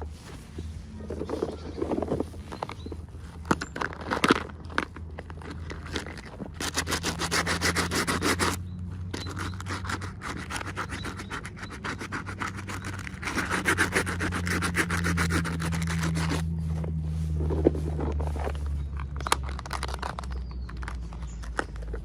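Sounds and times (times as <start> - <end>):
rapid rubbing or scratching: 0.0 - 22.0.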